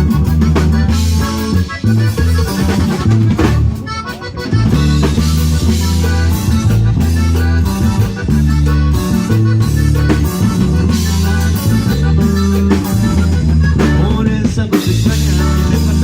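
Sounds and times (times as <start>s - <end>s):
bass line: 0.0s - 16.0s
drum kit beat: 0.0s - 16.0s
guitar: 0.0s - 16.0s.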